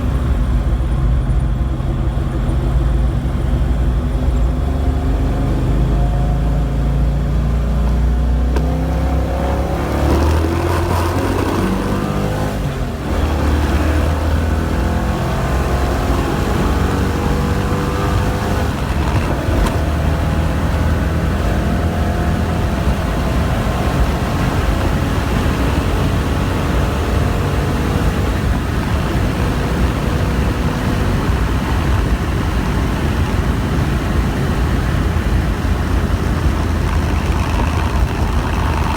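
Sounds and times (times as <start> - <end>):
car engine accelerating: 0.0 - 38.9
road noise: 0.0 - 38.9.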